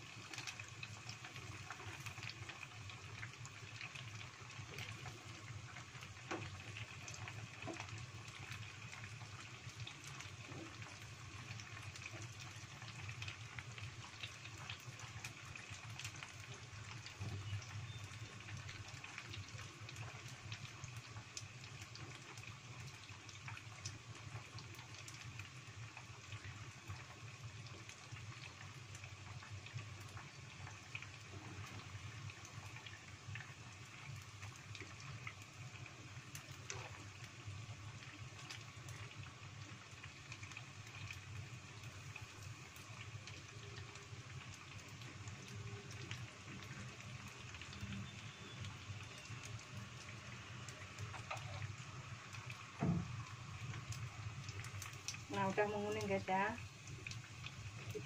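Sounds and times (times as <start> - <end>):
deep-frying sizzle and crackling: 0.0 - 58.0.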